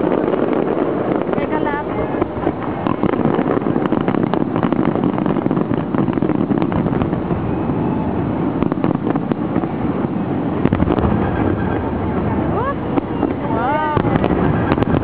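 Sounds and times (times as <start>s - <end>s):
fireworks cracks and crackles: 0.0s - 15.0s
fireworks rumble: 0.0s - 15.0s.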